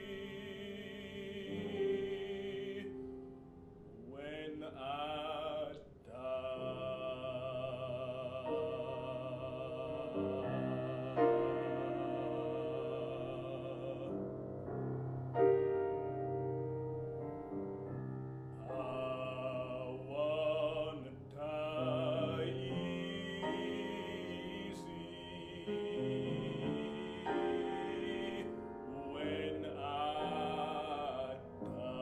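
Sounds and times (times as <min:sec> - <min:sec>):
baritone singing with vibrato: 0:00.0 - 0:03.1, 0:04.0 - 0:14.3, 0:18.6 - 0:32.0
piano accompaniment: 0:00.0 - 0:32.0.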